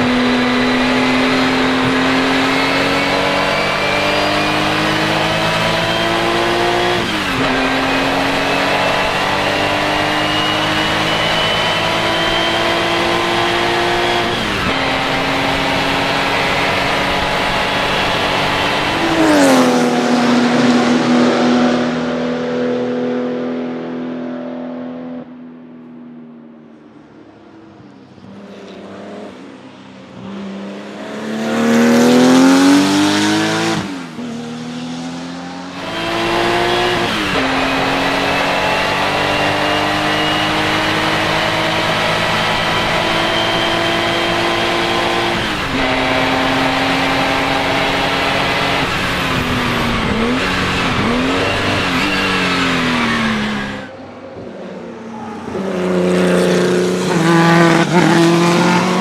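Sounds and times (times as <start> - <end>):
race car engine accelerating: 0.0 - 25.3, 27.6 - 59.0.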